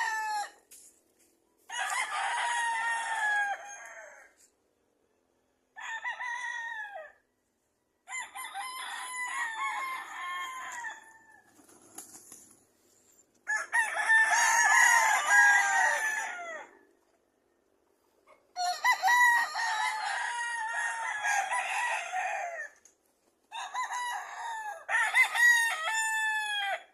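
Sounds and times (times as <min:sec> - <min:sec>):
roosters crowing: 0:00.0 - 0:00.9, 0:01.6 - 0:04.5, 0:05.7 - 0:07.3, 0:08.0 - 0:12.4, 0:13.4 - 0:17.0, 0:18.5 - 0:26.9.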